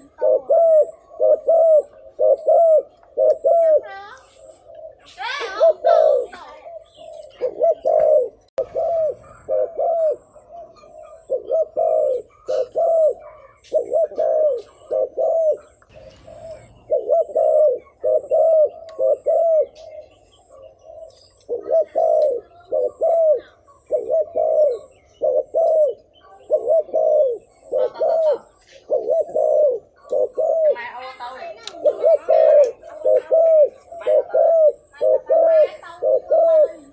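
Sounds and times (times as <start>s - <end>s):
dove cooing: 0.0s - 36.9s.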